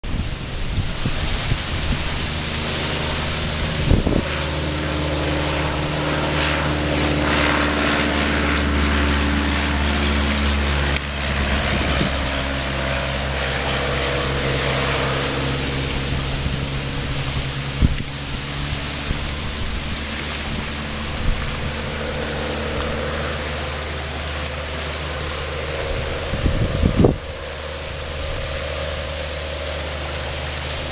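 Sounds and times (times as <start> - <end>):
plane engine droning: 0.0 - 30.9
wind on microphone: 0.0 - 30.9.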